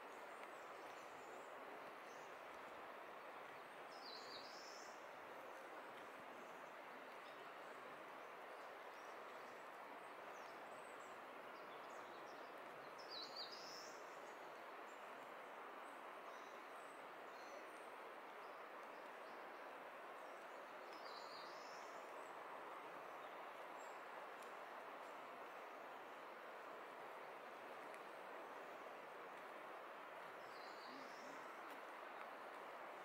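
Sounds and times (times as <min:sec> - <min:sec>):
stream rushing: 0:00.0 - 0:33.0.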